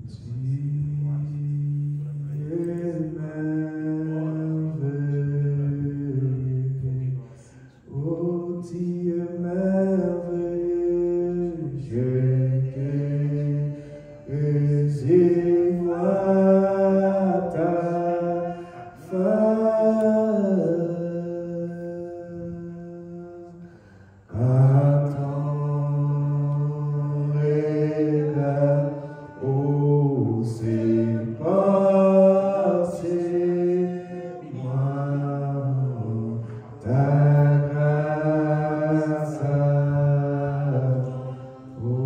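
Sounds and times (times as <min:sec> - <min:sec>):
person singing worship song: 0:00.0 - 0:42.0.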